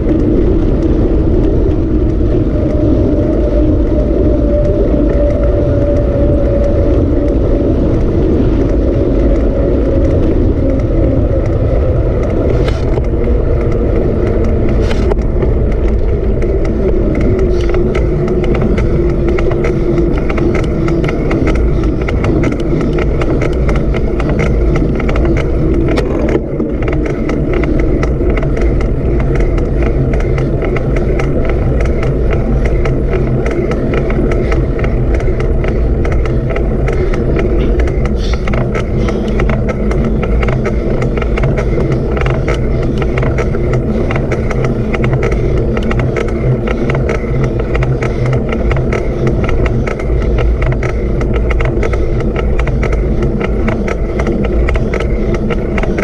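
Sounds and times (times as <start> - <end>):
small clicks patter: 0.0 - 56.0
vehicle motor rumbling: 0.0 - 56.0.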